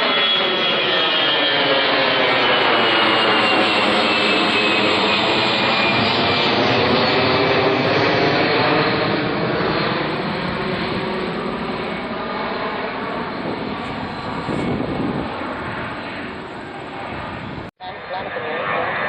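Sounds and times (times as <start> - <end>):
jet engines roaring past: 0.0 - 19.0.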